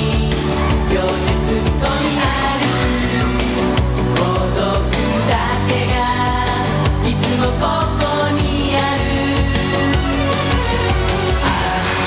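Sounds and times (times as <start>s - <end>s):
drums striking a beat: 0.0s - 12.0s
live pop-rock band: 0.0s - 12.0s.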